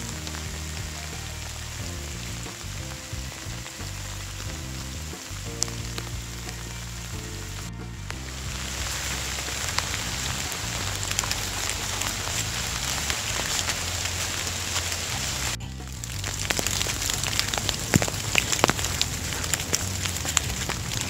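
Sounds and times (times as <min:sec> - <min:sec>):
raindrops ticking: 0:00.0 - 0:21.0
soft background music: 0:00.0 - 0:21.0
steady rain falling: 0:00.0 - 0:21.0.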